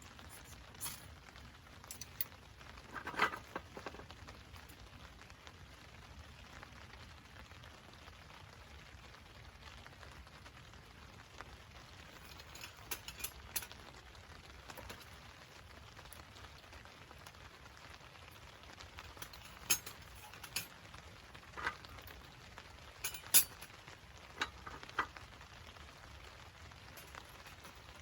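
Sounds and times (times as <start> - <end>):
rain pattering on tarp: 0.0 - 28.0.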